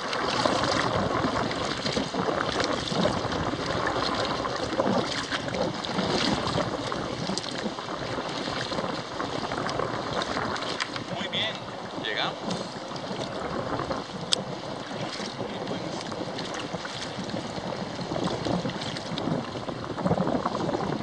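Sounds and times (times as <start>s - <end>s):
paddle splashing in water: 0.0s - 21.0s
water rushing: 0.0s - 21.0s
wind noise on microphone: 0.0s - 21.0s.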